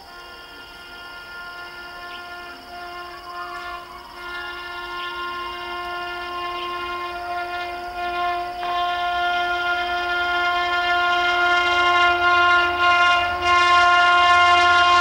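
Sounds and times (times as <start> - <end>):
locomotive horn blast: 0.0 - 15.0.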